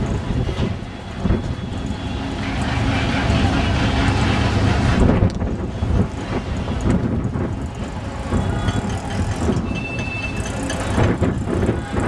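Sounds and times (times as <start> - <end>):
busy street traffic: 0.0 - 12.0.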